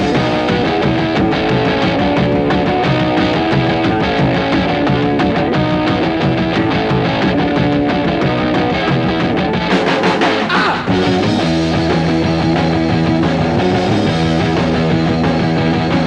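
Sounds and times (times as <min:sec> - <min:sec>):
punk rock band playing: 0:00.0 - 0:16.0.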